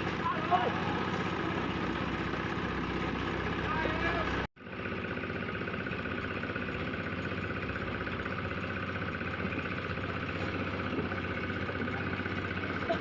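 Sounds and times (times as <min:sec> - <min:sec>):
motor running steadily: 0:00.0 - 0:13.0.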